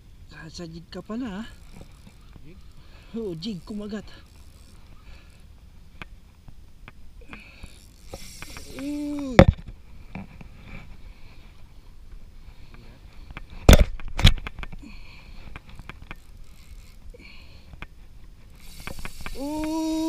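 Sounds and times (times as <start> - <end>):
faint scattered ticks: 0.3 - 13.6, 14.3 - 20.0.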